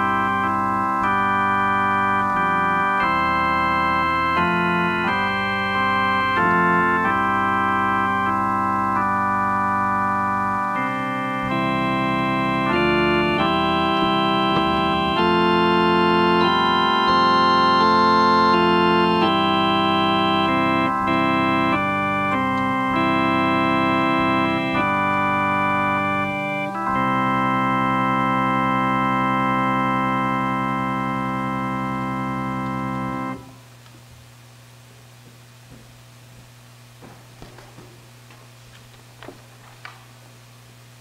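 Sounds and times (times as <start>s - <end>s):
electronic keyboard chords: 0.0s - 33.6s.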